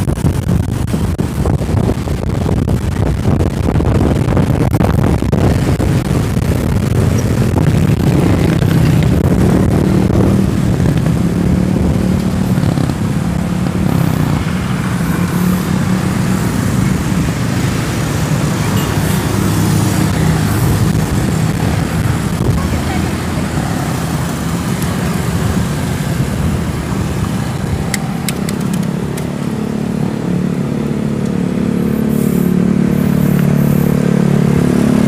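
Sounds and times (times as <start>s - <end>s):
motorcycle engines running: 0.0s - 35.0s
wind on microphone: 0.0s - 35.0s
cars passing: 4.7s - 35.0s.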